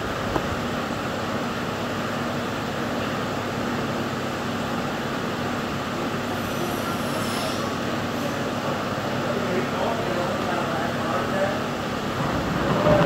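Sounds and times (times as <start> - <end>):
rushing mechanical noise: 0.0 - 13.0.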